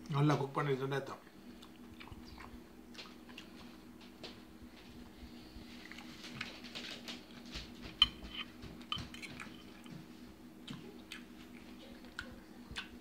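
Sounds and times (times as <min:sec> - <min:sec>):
chewing food: 0:01.4 - 0:13.0.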